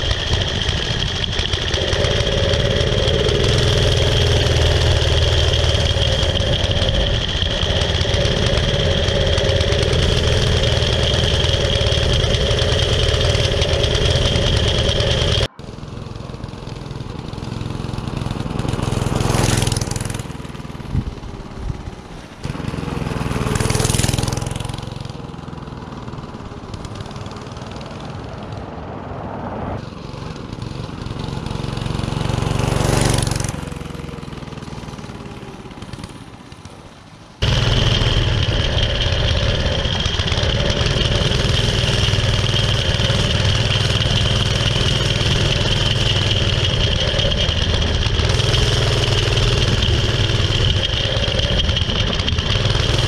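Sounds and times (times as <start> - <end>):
small motorbike engine passing: 0.0 - 53.0.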